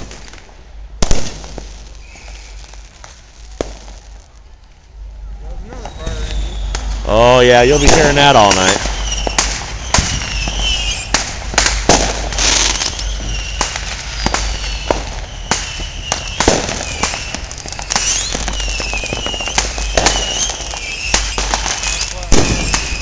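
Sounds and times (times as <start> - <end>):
falling firework whistles: 0.0 - 4.3, 5.2 - 23.0
fireworks banging and popping: 0.0 - 23.0.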